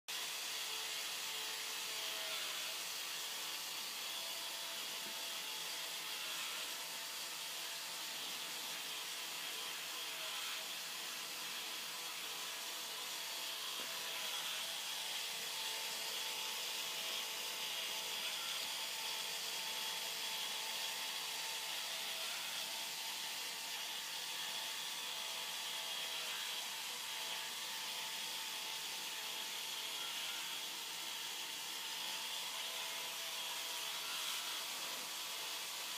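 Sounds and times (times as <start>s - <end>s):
small motors whirring: 0.1s - 35.9s.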